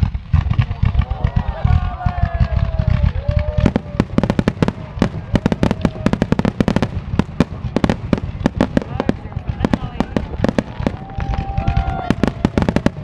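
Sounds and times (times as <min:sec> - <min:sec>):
fireworks popping and cracking: 0:00.0 - 0:13.0.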